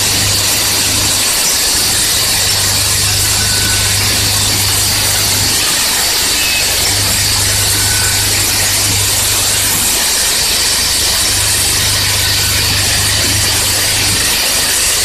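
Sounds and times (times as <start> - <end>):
machine low hum: 0.0 - 14.6
machine high hiss: 0.0 - 15.0.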